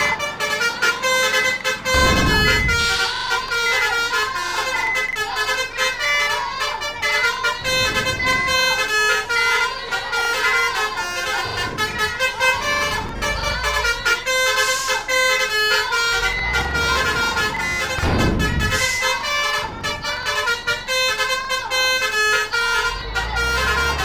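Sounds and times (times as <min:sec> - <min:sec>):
multi-tone air horns tooting: 0:00.0 - 0:24.0
vehicle engine rumble: 0:00.0 - 0:24.0.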